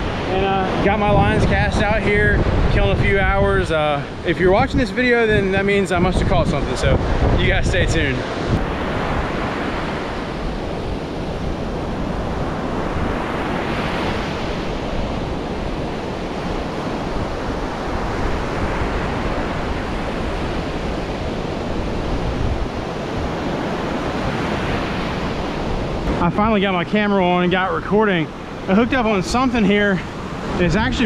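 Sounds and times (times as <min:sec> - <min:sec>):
ocean surf crashing: 0:00.0 - 0:31.0
wind rumbling on microphone: 0:00.0 - 0:31.0.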